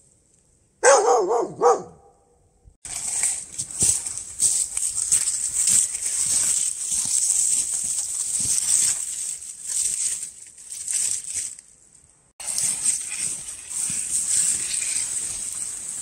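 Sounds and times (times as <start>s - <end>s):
crunching and rustling: 2.8s - 16.0s.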